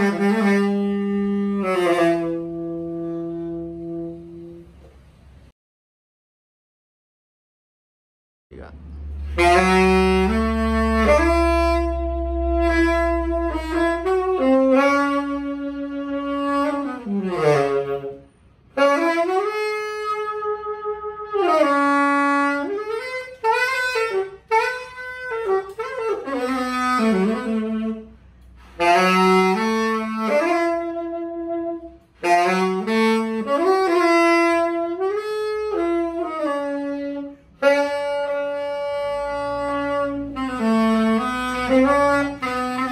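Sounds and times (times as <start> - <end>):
tenor saxophone melody: 0.0 - 4.9, 8.6 - 42.9.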